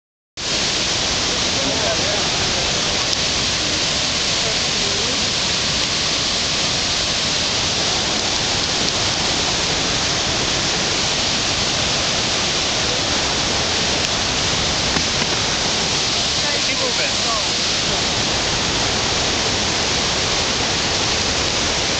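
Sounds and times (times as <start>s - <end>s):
river in flood roaring: 0.4s - 21.9s.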